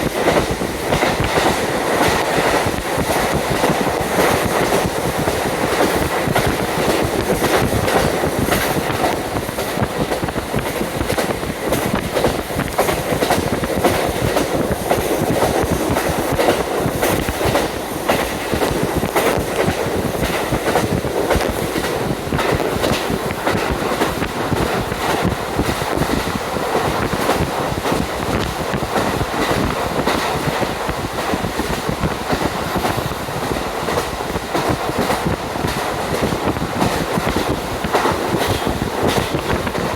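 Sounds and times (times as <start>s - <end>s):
train wheels clicking over joints: 0.0s - 39.9s
wind rushing through window: 0.0s - 39.9s.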